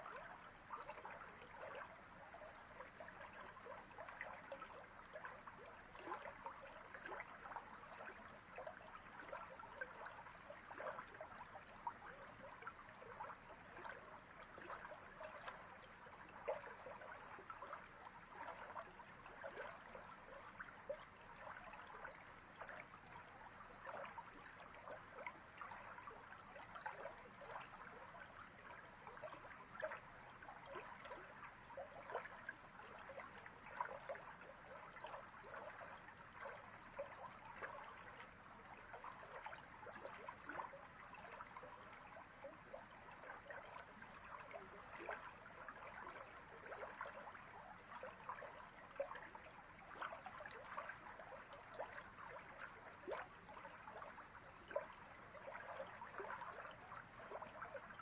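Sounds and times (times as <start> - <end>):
small bubbling plinks and splashes: 0.0 - 58.0.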